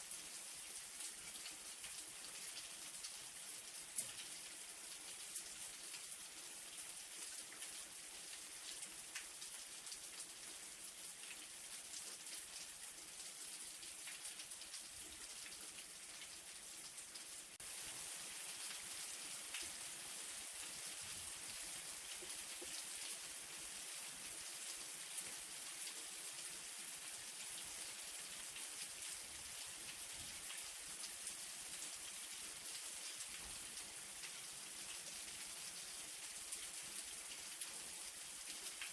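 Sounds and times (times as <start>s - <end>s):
light rain hissing: 0.0s - 38.9s
rain drips: 0.0s - 38.9s.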